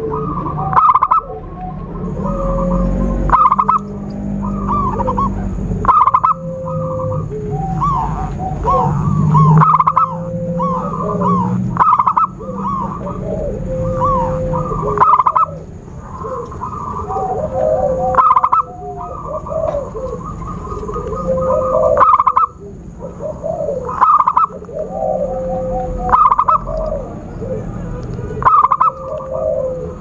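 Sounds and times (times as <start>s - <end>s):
doves cooing: 0.0s - 30.0s.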